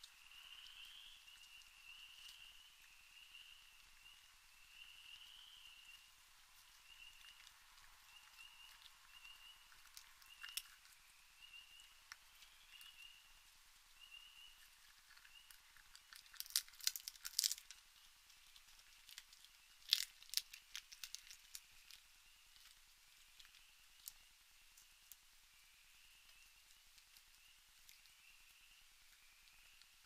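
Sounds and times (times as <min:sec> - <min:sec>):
raccoon crunching seeds and nuts: 0:00.0 - 0:25.4, 0:26.0 - 0:30.0.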